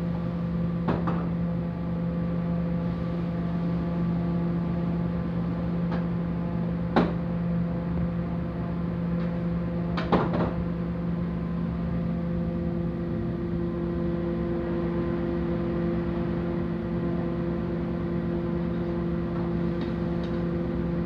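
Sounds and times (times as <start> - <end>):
gas burner hum: 0.0 - 21.0.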